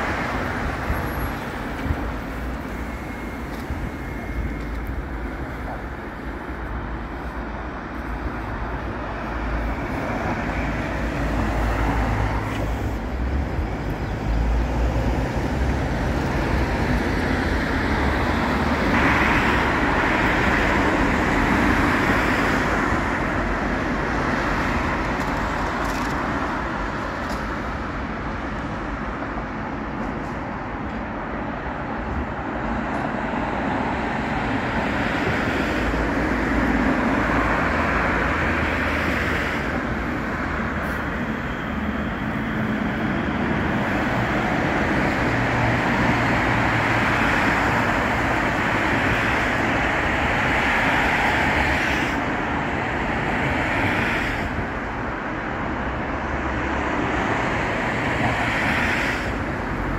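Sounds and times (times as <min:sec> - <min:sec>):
cars passing: 0:00.0 - 0:59.9
tram passing: 0:00.0 - 0:59.9.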